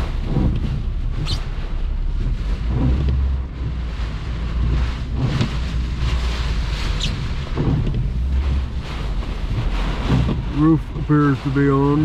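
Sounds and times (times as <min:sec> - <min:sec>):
strong wind gusting: 0:00.0 - 0:11.5
wind buffeting microphone: 0:00.0 - 0:12.0.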